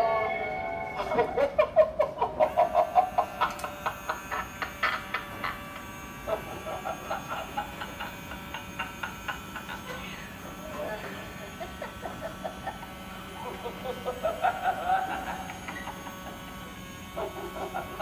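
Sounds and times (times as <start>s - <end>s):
animatronic buzzing chatter: 0.0s - 18.0s.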